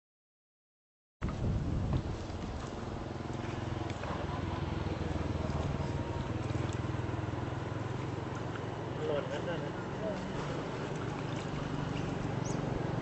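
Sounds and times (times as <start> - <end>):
faint water splashes: 1.2 - 13.0
engine running at low speed: 1.3 - 13.0.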